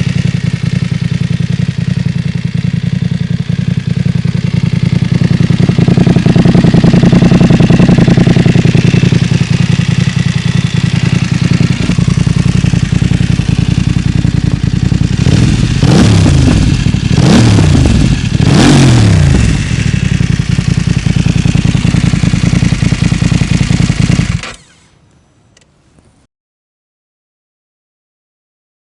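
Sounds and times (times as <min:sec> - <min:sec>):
motorcycle throttle blips: 0:00.0 - 0:24.8
motorcycle engine idling: 0:00.0 - 0:24.9.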